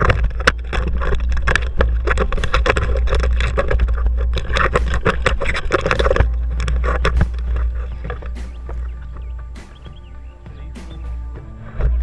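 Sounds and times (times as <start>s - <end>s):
camera handling rumble: 0.0s - 10.0s
knocks and rattles: 0.0s - 12.0s.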